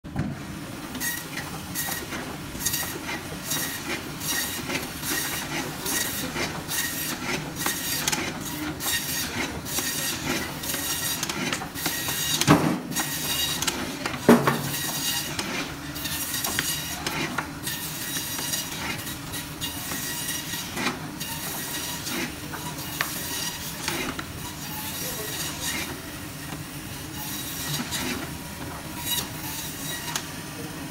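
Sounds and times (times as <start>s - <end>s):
saw blade scraping through frozen meat: 1.0s - 26.1s, 27.1s - 30.2s
band saw motor and blade hum: 1.0s - 30.3s.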